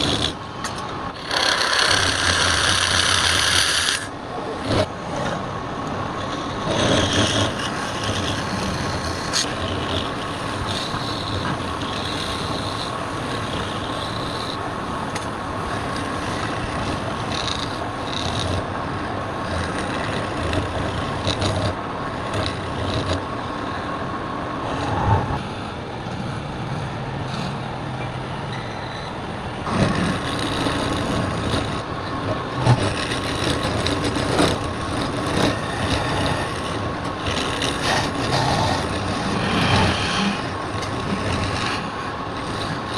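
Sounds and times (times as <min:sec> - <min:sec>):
wood lathe whining: 0:00.0 - 0:23.9, 0:29.6 - 0:42.9
rough cutting noise: 0:00.0 - 0:24.0, 0:29.6 - 0:42.9.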